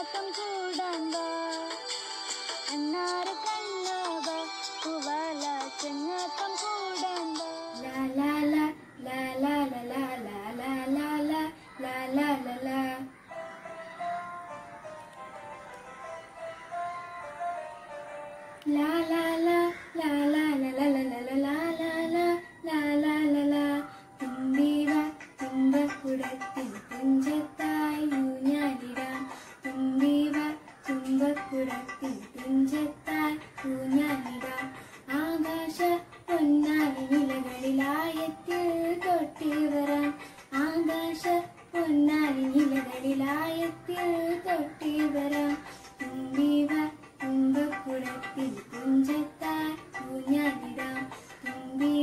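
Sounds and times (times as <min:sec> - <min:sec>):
girl singing: 0:00.0 - 0:14.0, 0:18.6 - 0:52.0.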